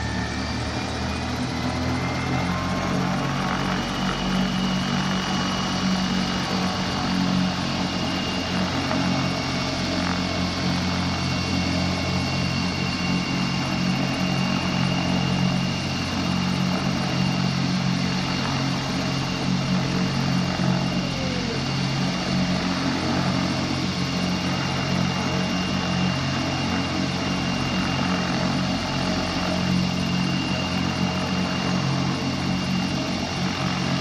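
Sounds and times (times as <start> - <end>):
helicopter turbine whine: 0.0 - 34.0
rotor and engine hum: 0.0 - 34.0.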